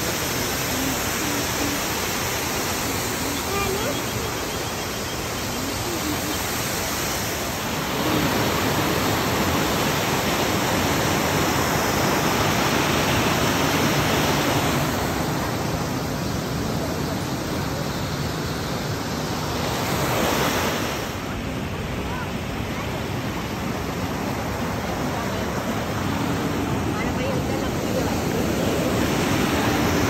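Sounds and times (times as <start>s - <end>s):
water rushing over boulders: 0.0s - 30.0s.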